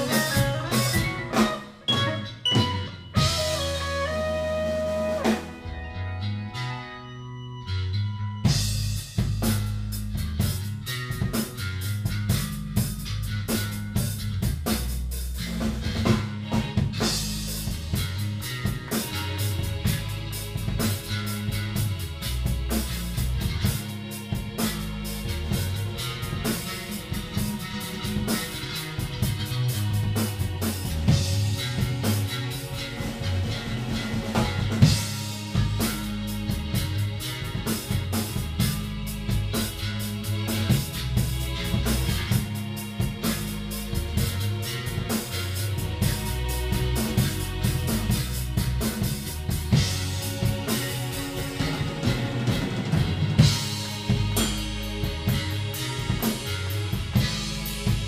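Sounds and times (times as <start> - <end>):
drum kit beat: 0.0 - 5.7, 8.5 - 58.0
guitar: 0.0 - 58.0
rock band playing: 0.0 - 58.0
low sustained bass notes: 3.2 - 58.0.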